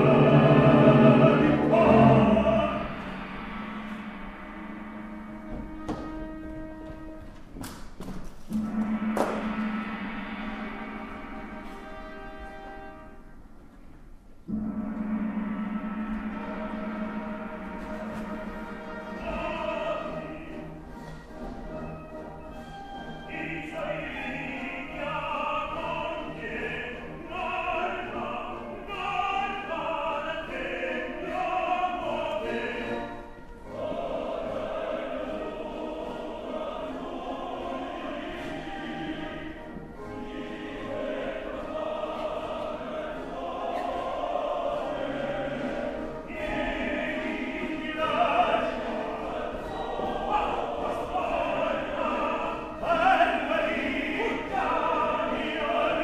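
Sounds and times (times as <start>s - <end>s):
tenor singing opera: 0.0s - 7.4s, 14.6s - 56.0s
orchestra: 0.0s - 56.0s.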